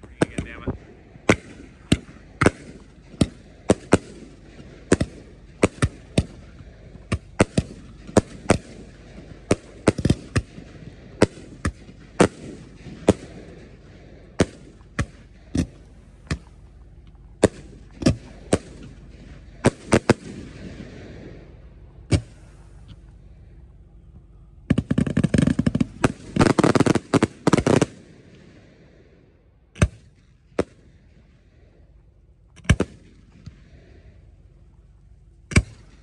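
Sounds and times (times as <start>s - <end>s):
fireworks bangs: 0.0s - 31.3s, 32.6s - 34.3s
low rumble: 0.0s - 36.0s.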